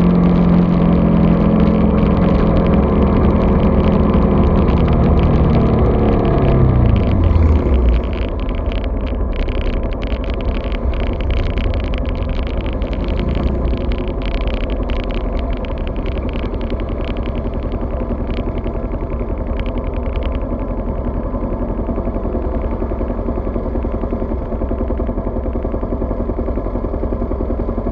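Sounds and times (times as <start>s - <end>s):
clicks and rattles: 0.0s - 25.7s
vehicle engine idling: 0.0s - 27.9s.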